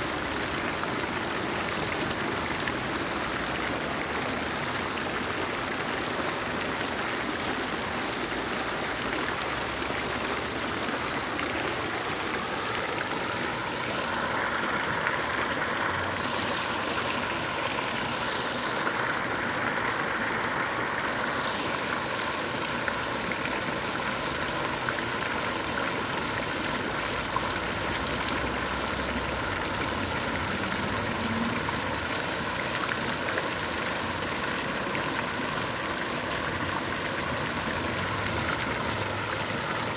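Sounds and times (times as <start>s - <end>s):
fountain jets splashing: 0.0s - 39.9s.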